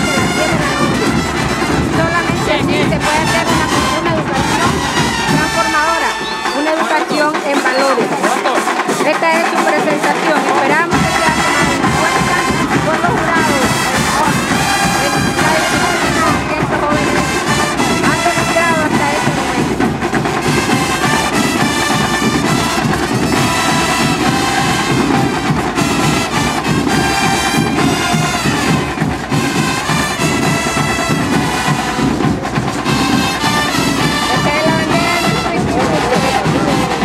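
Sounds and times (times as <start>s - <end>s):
marching band brass playing: 0.0s - 37.0s.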